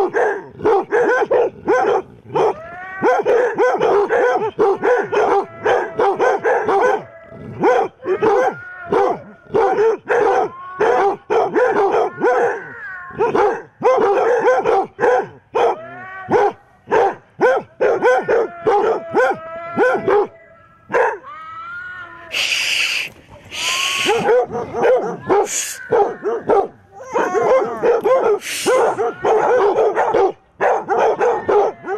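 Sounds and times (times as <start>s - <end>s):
hounds barking and baying: 0.0s - 21.3s, 22.3s - 31.9s.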